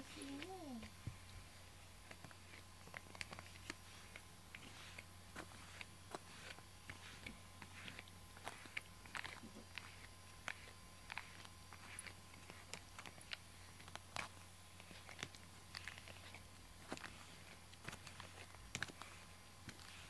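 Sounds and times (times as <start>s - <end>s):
brush scratching through fur: 0.0s - 20.0s.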